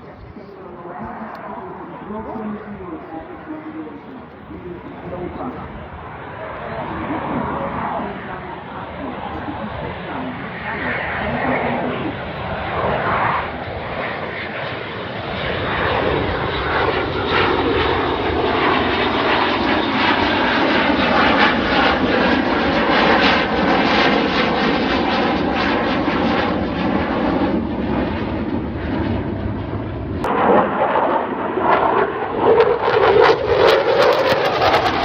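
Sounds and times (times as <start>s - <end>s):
aircraft engines roaring: 0.0s - 35.0s.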